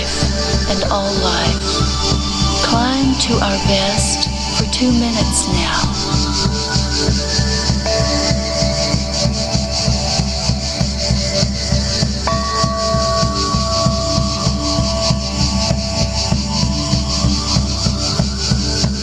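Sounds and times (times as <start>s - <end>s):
long held melodic notes: 0.0s - 18.9s
steady drum beat: 0.0s - 19.0s.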